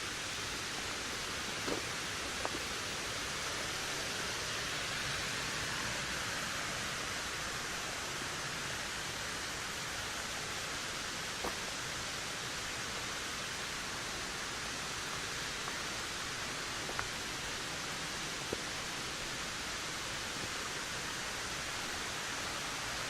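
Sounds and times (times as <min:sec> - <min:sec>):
wind through trees: 0:00.0 - 0:23.0.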